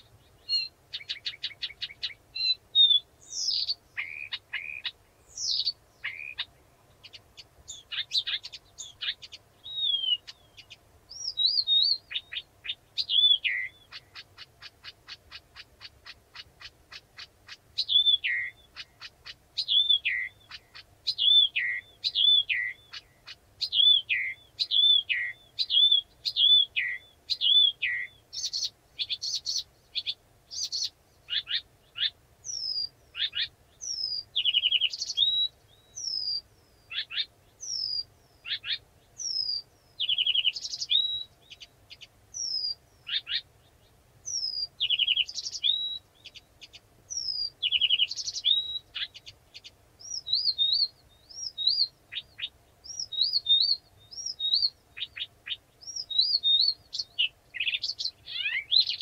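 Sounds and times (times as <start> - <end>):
warbler singing: 0.0 - 59.0.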